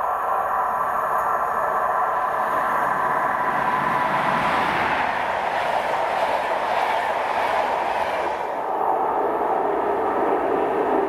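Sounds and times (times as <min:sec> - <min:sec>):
electric train running on rails: 0:00.0 - 0:11.0
steady rushing background noise: 0:00.0 - 0:11.0.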